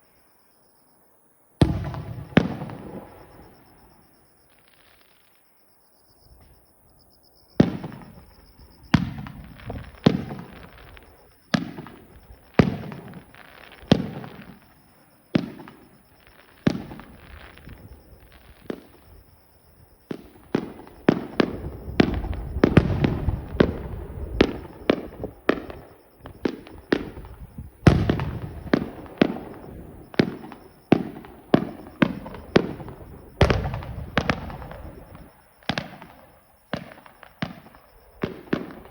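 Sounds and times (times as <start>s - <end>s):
distant fireworks booming: 1.6s - 5.4s, 7.5s - 38.9s.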